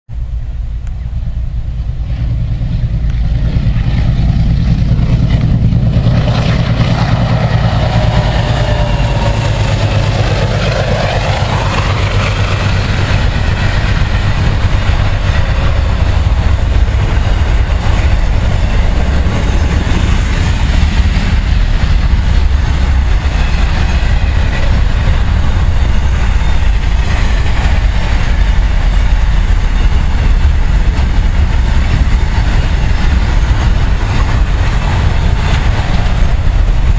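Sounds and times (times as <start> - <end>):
diesel locomotives rumbling past: 0.1 - 36.9.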